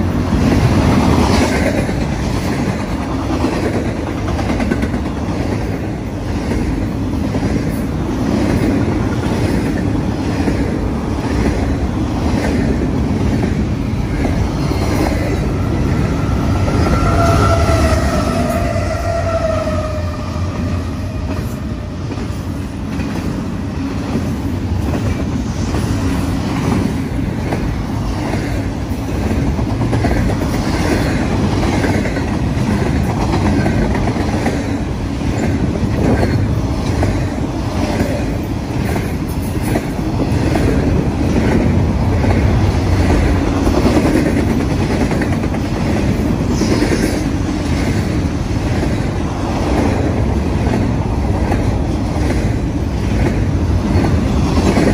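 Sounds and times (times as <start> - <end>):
freight train rumbling: 0.0 - 54.9
steel wheels clacking on rails: 0.0 - 54.9.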